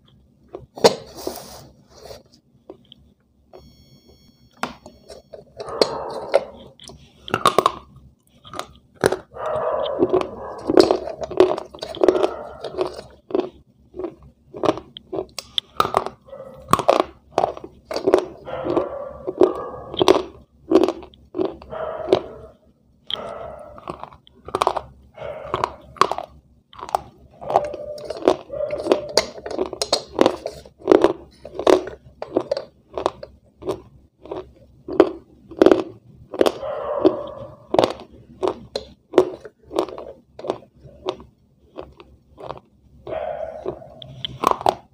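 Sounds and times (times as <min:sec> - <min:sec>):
person crunching brittle food: 0:05.0 - 0:44.9.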